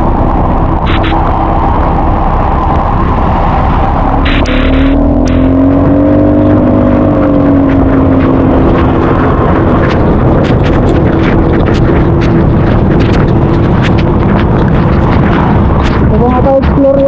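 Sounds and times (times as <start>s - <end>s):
motorcycle engine running: 0.0s - 17.0s
rain striking camera: 0.0s - 17.0s
wind rushing on microphone: 0.0s - 17.0s.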